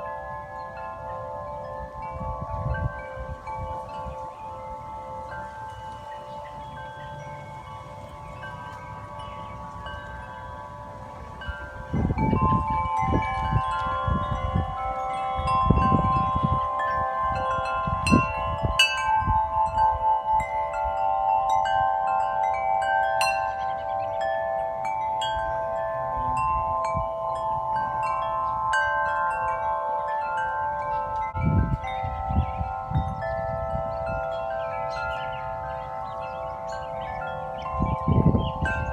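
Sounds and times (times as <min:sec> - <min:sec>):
tubular wind chimes ringing: 0:00.0 - 0:38.9
wind rumbling on microphone: 0:00.0 - 0:38.9.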